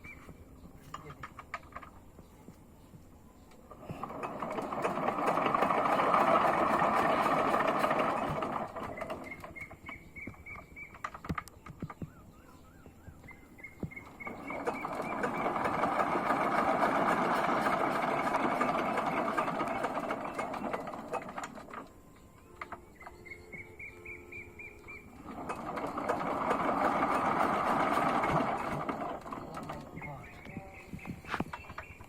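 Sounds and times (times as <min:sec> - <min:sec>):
hand-cranked machine whirring: 0:03.5 - 0:32.0.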